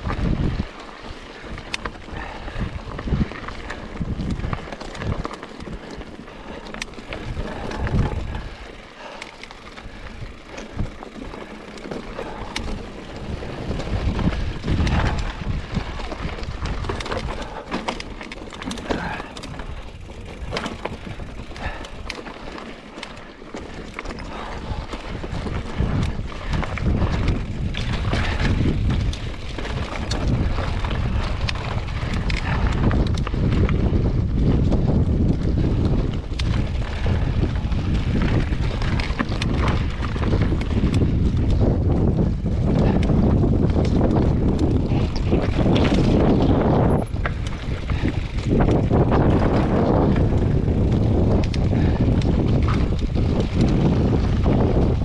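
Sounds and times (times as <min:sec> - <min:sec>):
wind rushing over microphone: 0:00.0 - 0:22.7, 0:23.6 - 0:55.0
bike clicking and rattling: 0:00.0 - 0:55.0
tyres rolling over dirt: 0:00.0 - 0:55.0.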